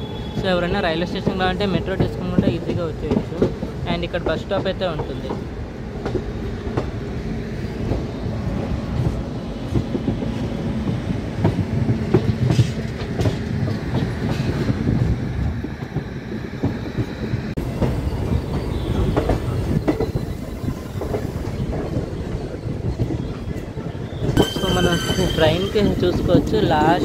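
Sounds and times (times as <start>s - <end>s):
train coaches rumbling: 0.0s - 27.0s.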